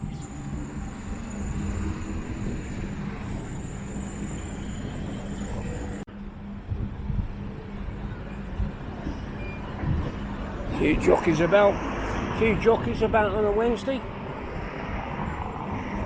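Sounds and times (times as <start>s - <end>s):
traffic engine hum: 0.0s - 16.0s.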